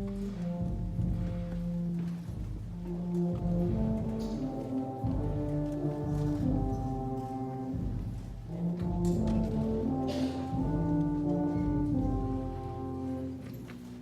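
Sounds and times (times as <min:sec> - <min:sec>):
brass chords: 0:00.0 - 0:14.0.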